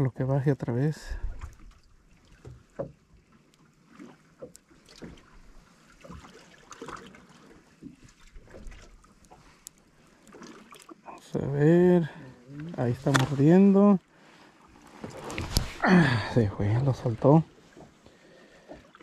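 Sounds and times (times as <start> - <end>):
water lapping against hull: 0.6 - 19.0.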